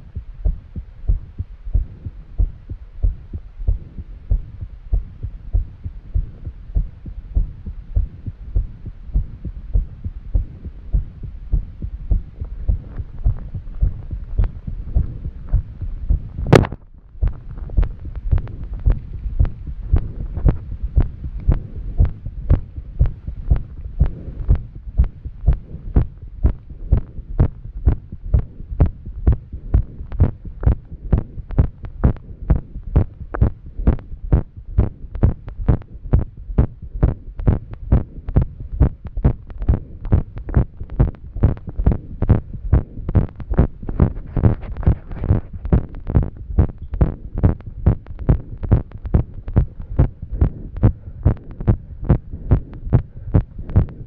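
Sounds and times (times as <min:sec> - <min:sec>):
fast heartbeat thumps: 0:00.0 - 0:54.0.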